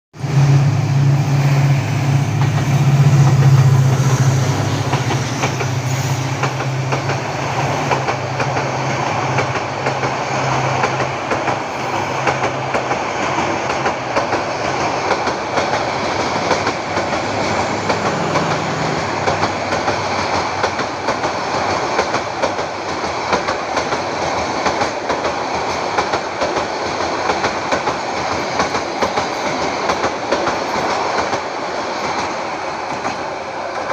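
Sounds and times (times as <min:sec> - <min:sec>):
train rumbling on rails: 0:00.2 - 0:33.9.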